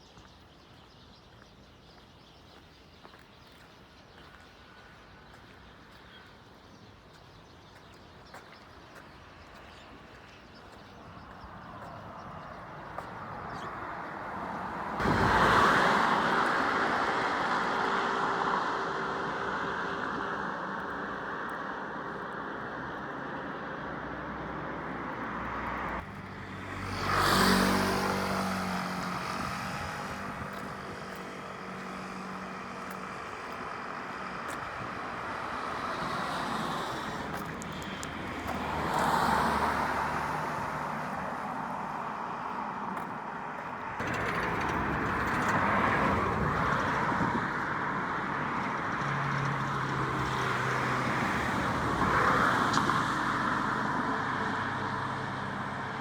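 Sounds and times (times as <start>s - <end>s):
vehicles passing: 4.1s - 56.0s.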